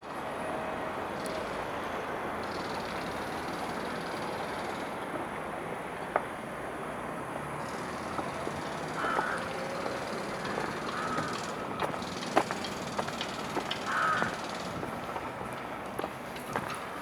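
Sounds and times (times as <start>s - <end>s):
rumble of vehicles and machinery: 0.0s - 17.0s.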